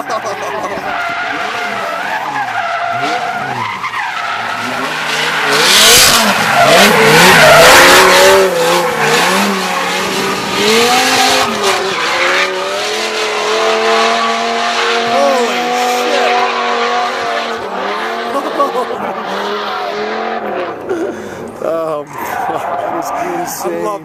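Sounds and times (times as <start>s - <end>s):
tyres squealing: 0.0s - 19.6s
car engine revving: 0.0s - 23.8s.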